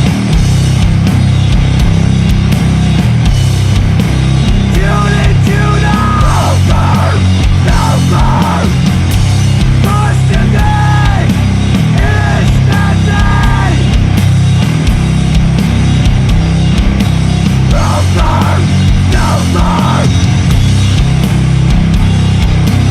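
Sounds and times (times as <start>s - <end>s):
distorted heavy metal music: 0.0s - 22.9s.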